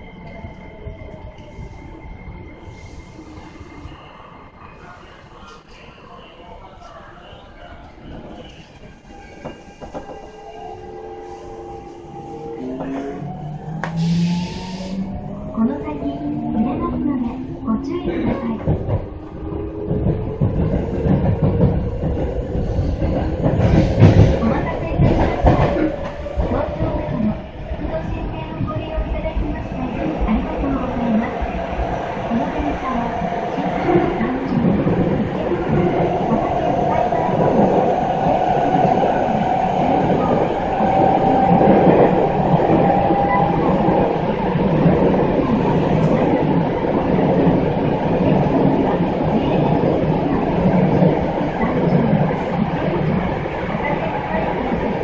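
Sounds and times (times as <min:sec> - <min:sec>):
train wheels rumbling on rail: 0:07.7 - 0:55.0.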